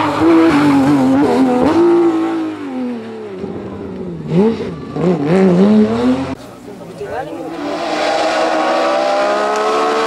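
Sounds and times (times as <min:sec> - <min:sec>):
car engine revving: 0:00.0 - 0:06.6, 0:07.2 - 0:10.0.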